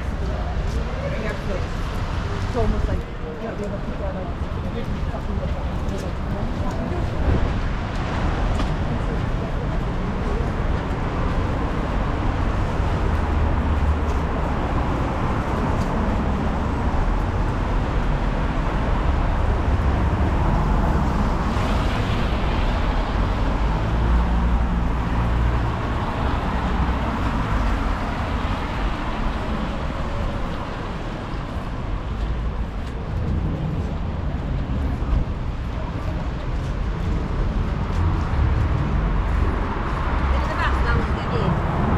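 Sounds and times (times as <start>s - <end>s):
vehicles passing: 0.0s - 41.9s
wind rumbling on microphone: 0.0s - 41.9s.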